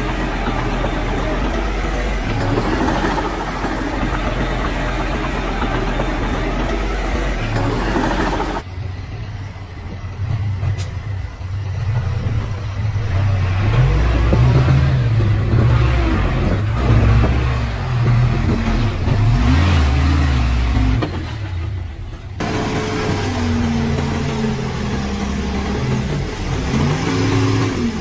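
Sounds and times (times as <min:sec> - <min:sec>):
diesel machinery engine: 0:00.0 - 0:28.0.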